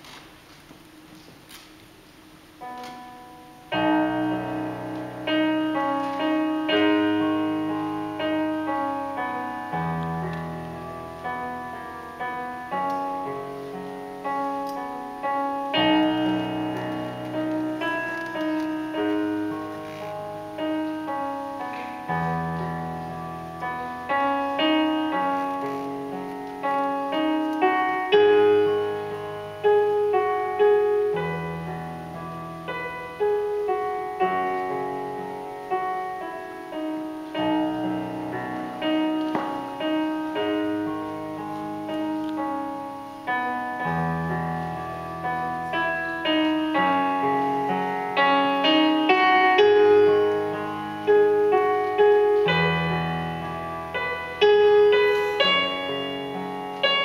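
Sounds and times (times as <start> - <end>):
digital piano solo piece: 0.0 - 57.0
low bass piano notes: 0.0 - 57.0.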